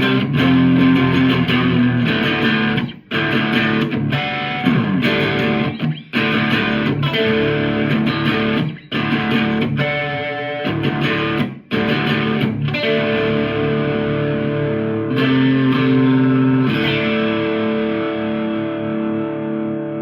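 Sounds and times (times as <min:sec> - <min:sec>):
electric guitar strummed chords: 0:00.0 - 0:20.0.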